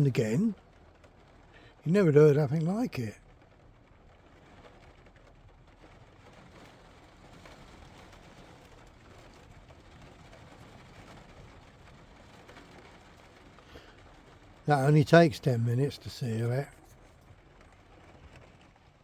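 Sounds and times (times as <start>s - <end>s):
heavy rain on van roof: 0.0s - 19.0s.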